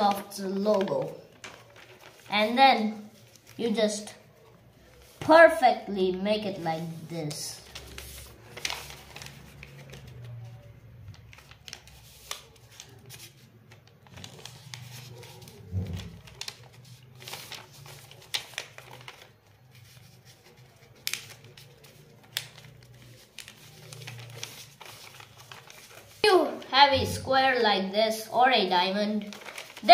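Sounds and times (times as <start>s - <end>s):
paper crinkling: 0.0s - 5.3s, 6.0s - 26.7s, 28.9s - 29.9s.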